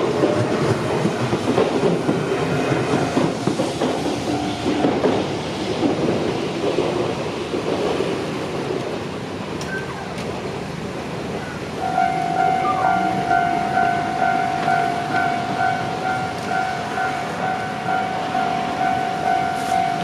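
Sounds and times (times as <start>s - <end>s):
train wheels clattering over rails: 0.0s - 20.0s.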